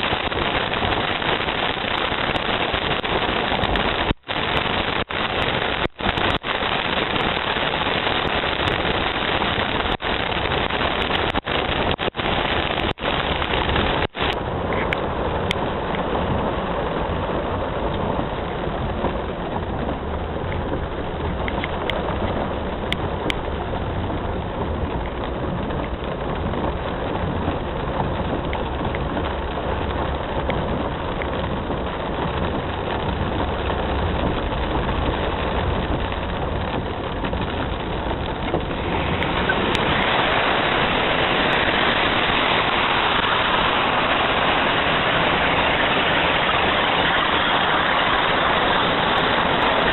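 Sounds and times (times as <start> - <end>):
rain hissing: 0.0 - 49.9
vehicle engine rumbling: 0.0 - 49.9.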